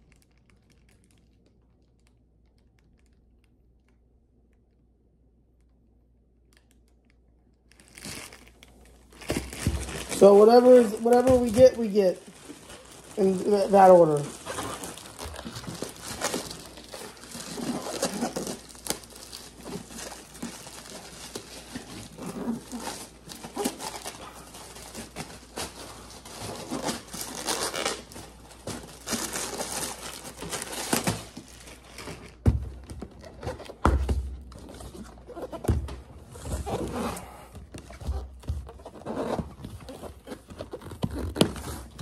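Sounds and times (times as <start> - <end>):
packaging crinkling: 0.0 - 4.0, 6.5 - 42.0.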